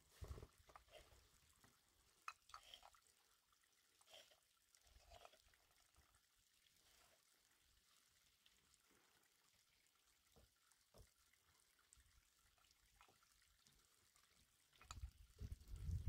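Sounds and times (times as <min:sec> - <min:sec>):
soft water splashes and drips: 0:00.0 - 0:16.0.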